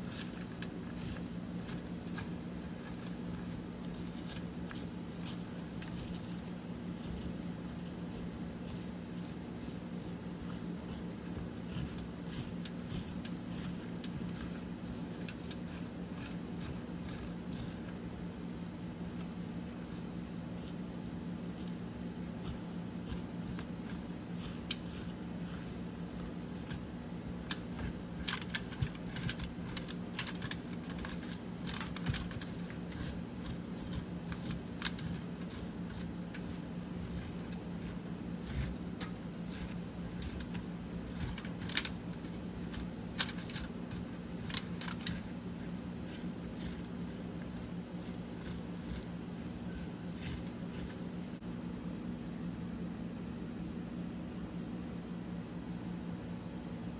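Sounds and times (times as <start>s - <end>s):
small clicks and crunches: 0.0s - 18.1s, 18.7s - 51.4s
steady low hum: 0.0s - 56.9s.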